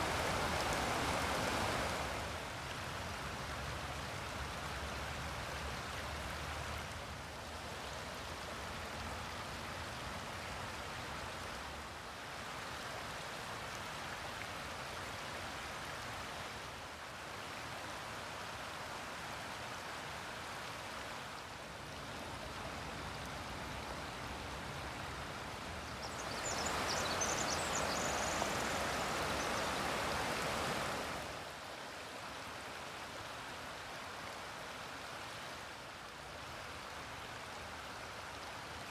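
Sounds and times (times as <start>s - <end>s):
creek running over stones: 0.0s - 38.9s.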